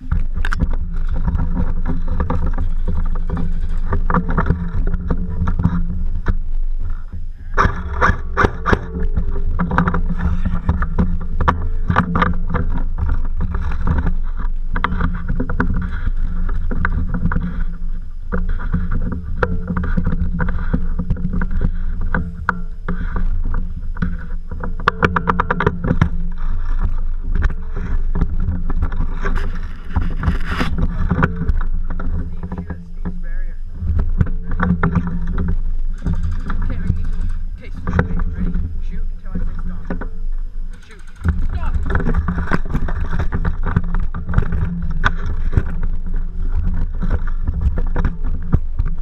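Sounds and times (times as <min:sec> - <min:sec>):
handling noise rumble: 0:00.0 - 0:49.0
rapid clicks: 0:00.0 - 0:49.0.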